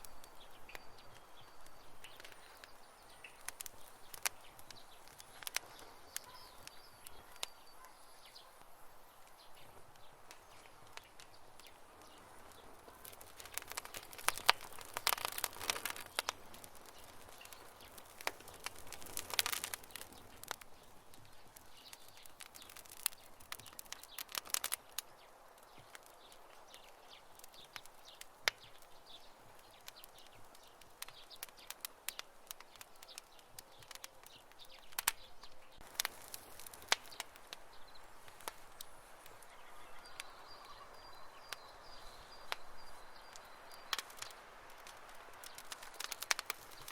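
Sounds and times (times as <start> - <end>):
campfire wood crackling and popping: 0.0 - 46.9
soft hiss of burning: 0.0 - 46.9.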